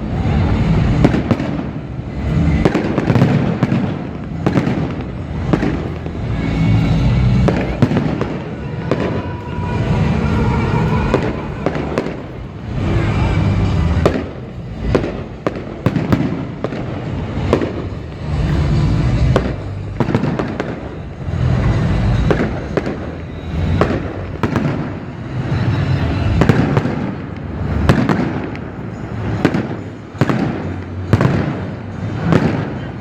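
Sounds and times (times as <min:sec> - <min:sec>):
fireworks bangs and cracks: 0:00.0 - 0:33.0.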